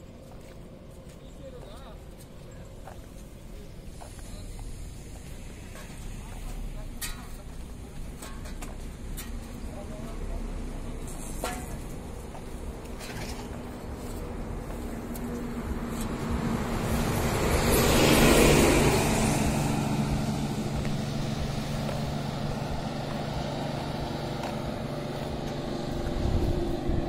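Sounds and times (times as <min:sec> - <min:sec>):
low engine hum: 0:00.0 - 0:27.0
vehicle passing: 0:00.6 - 0:27.0.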